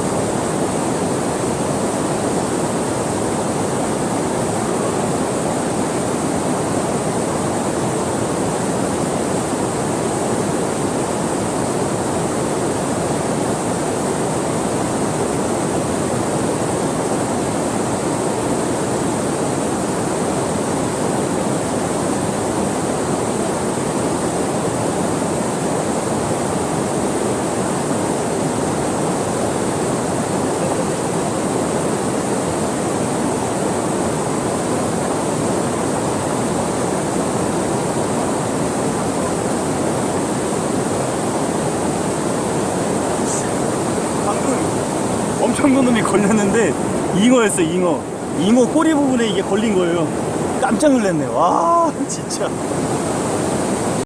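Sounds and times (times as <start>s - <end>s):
high hiss: 0.0s - 54.0s
river water rushing: 0.0s - 54.0s.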